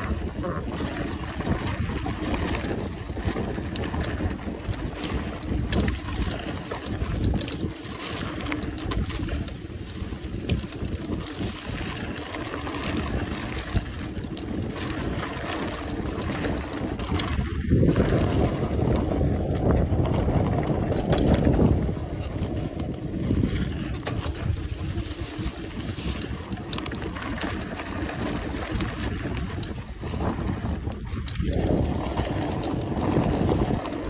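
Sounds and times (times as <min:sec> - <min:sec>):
bike clicks and rattles: 0:00.0 - 0:34.0
wind buffeting microphone: 0:00.0 - 0:34.0.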